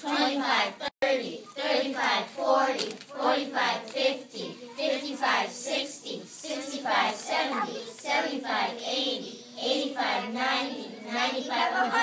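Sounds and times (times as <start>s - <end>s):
children chanting together: 0.0s - 12.0s.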